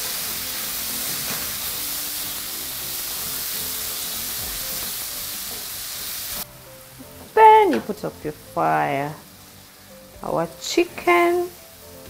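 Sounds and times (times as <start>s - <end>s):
background music: 0.0s - 12.0s
food sizzling in a frying pan: 0.0s - 12.0s.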